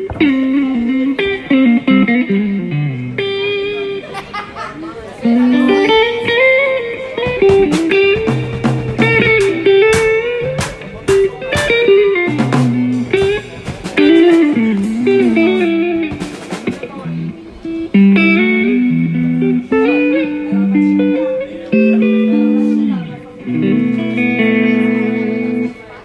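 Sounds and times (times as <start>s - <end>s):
guitar single-note melody: 0.0s - 4.1s, 5.2s - 26.0s.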